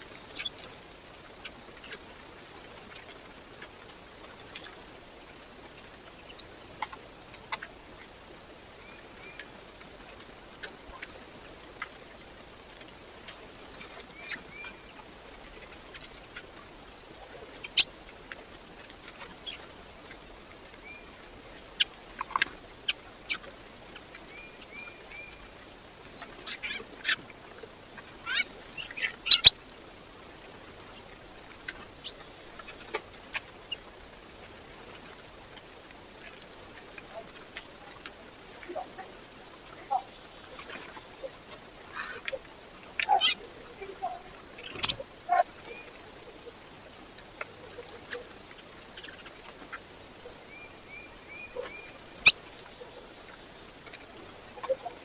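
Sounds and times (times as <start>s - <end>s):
small birds chirping: 0.0s - 18.4s, 19.0s - 29.6s, 30.8s - 55.0s
faint ticks: 0.0s - 55.0s.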